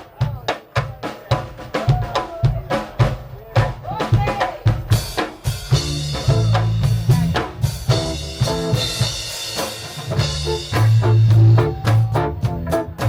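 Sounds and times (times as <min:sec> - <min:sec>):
drum kit hits: 0:00.0 - 0:13.0
reggae band playing live: 0:00.0 - 0:13.0
bass line: 0:02.5 - 0:13.0.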